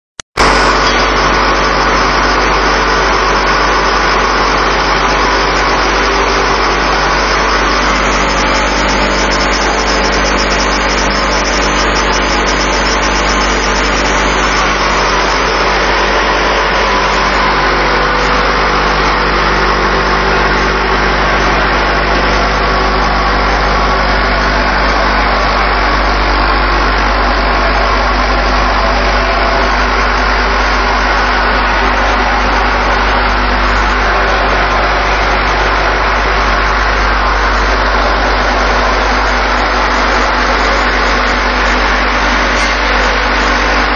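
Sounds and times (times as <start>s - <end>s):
vibrating table humming: 0.4s - 43.9s.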